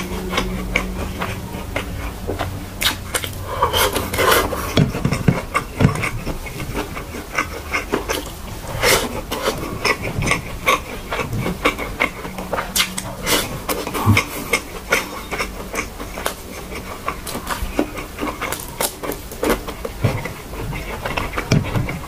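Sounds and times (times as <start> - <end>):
wet chewing and mouth smacks: 0.0 - 22.0.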